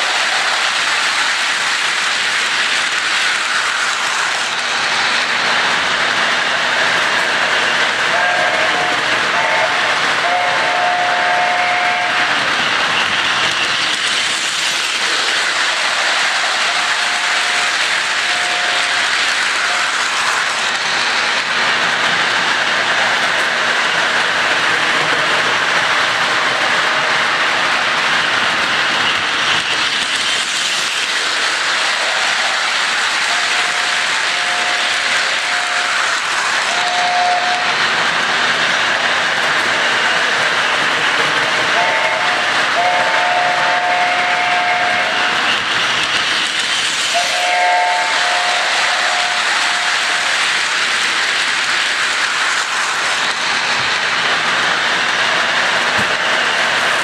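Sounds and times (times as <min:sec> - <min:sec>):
model train rattling on track: 0:00.0 - 0:57.0.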